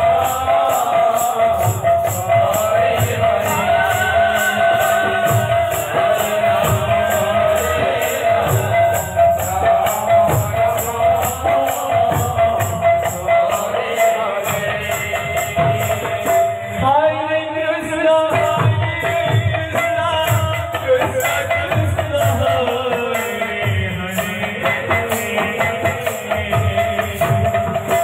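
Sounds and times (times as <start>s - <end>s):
drum beats: 0.0s - 17.1s, 18.1s - 28.0s
person singing: 0.0s - 28.0s.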